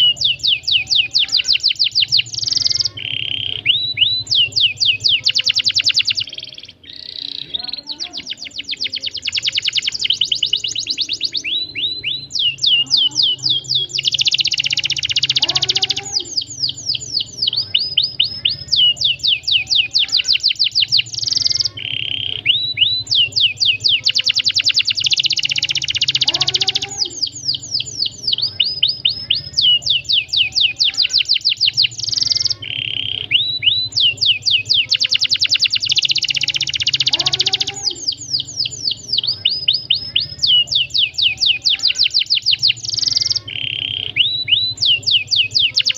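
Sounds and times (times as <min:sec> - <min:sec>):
canary singing chirps and trills: 0:00.0 - 0:45.9.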